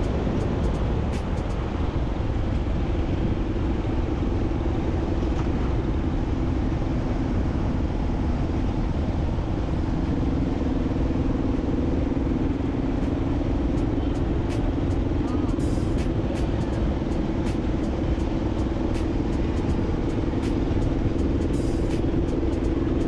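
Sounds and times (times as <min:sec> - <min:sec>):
road noise: 0:00.0 - 0:23.0
vehicle engine drone: 0:00.0 - 0:23.0.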